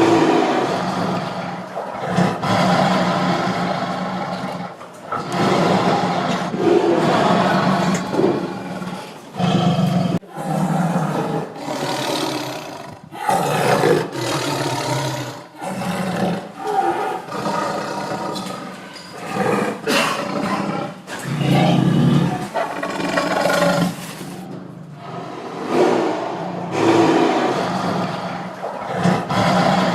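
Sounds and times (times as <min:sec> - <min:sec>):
tiger roaring: 0:00.0 - 0:29.9.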